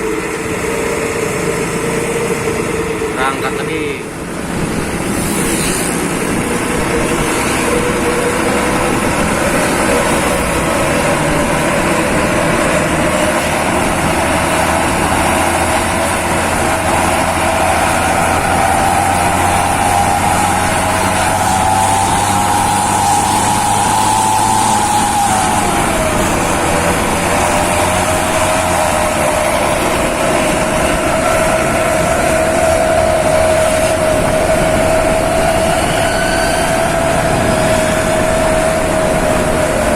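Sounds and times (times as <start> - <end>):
truck engine through loud exhaust: 0.0 - 39.9.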